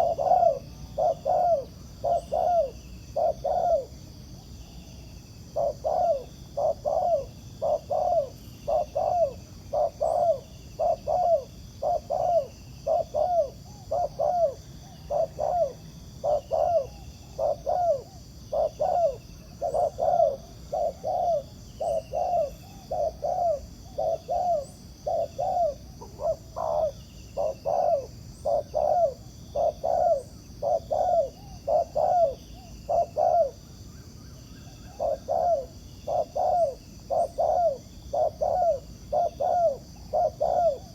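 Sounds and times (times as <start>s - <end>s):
doves cooing: 0.0s - 4.0s, 5.5s - 33.6s, 34.6s - 40.9s.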